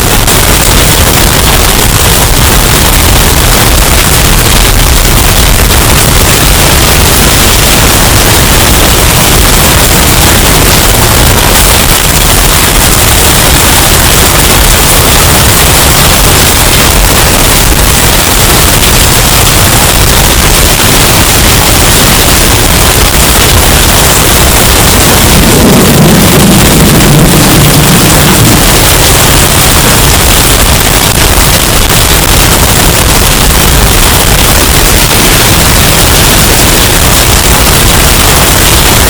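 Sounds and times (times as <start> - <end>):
distorted hurricane wind: 0.0 - 39.0.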